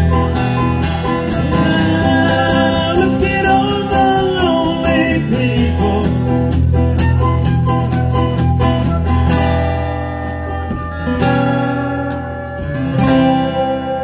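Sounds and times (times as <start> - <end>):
flute melody: 0.0 - 4.2, 6.5 - 14.0
drum kit: 0.0 - 14.0
strummed acoustic guitars: 0.0 - 14.0.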